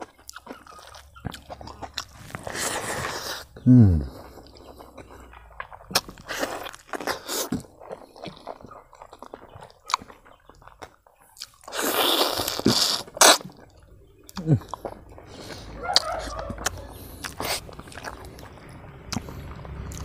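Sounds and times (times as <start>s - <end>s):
wet smacking and crunching chews: 0.0s - 20.0s.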